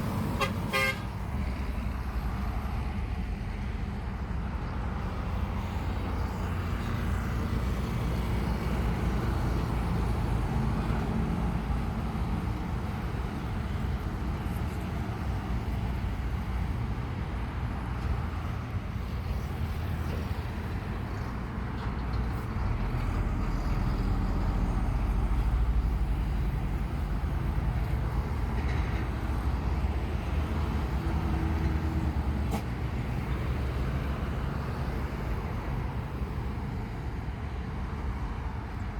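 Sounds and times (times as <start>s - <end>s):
road traffic noise: 0.0s - 38.9s.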